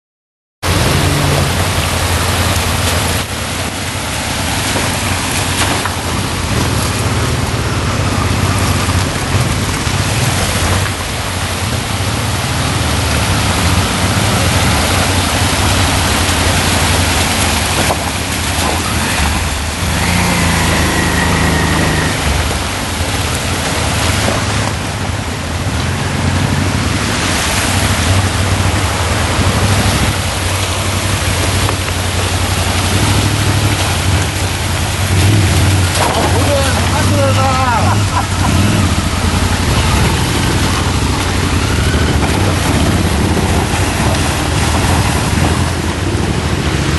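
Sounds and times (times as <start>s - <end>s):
motorcycle engines at low revs: 0.6s - 46.9s
stream running over rocks: 0.6s - 46.9s.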